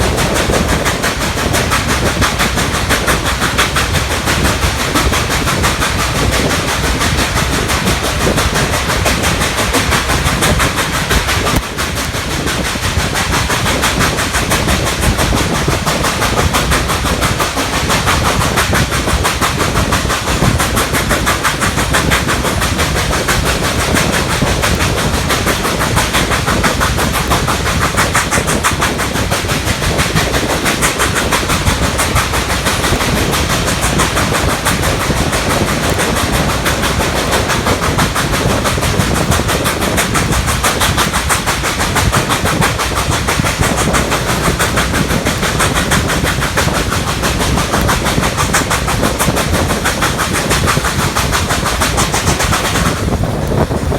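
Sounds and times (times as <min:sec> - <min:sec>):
steam locomotive exhaust chuffs: 0:00.0 - 0:53.9.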